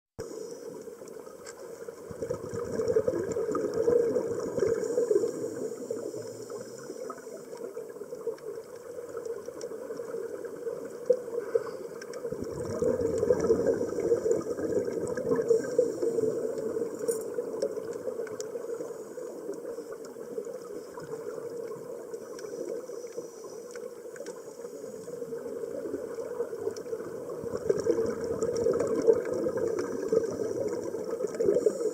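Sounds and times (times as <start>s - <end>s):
underwater air bubbles surging: 0.2s - 31.9s.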